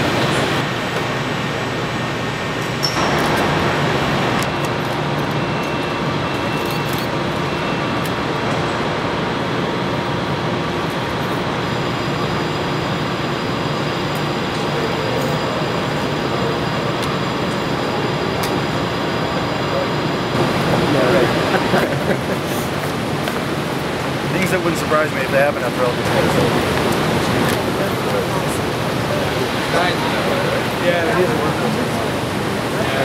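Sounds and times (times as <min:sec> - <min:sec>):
factory floor hum and hiss: 0:00.0 - 0:33.0.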